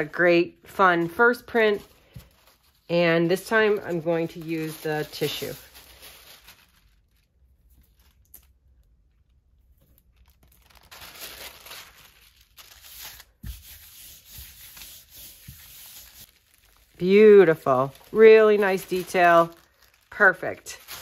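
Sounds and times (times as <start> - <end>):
tissue paper rustling: 0.8 - 8.2, 10.2 - 21.0.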